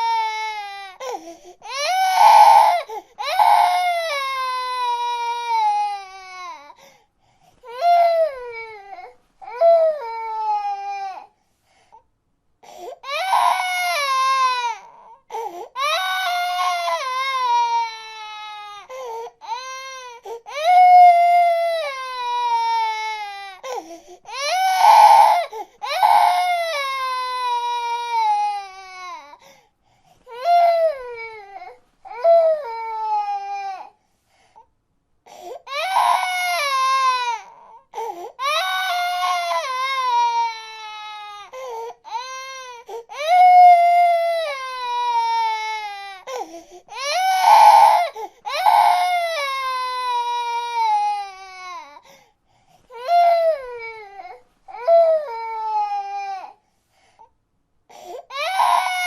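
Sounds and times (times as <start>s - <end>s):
infant crying: 0.0s - 6.9s, 7.6s - 11.4s, 12.6s - 29.5s, 30.3s - 34.0s, 35.3s - 52.2s, 52.9s - 56.6s, 57.9s - 59.0s.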